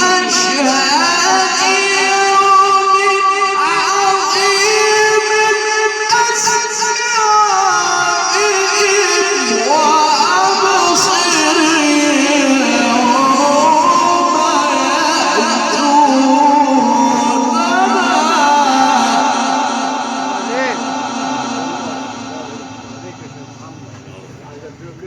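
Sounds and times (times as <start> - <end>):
man reciting melodically over loudspeaker: 0.0 - 25.0.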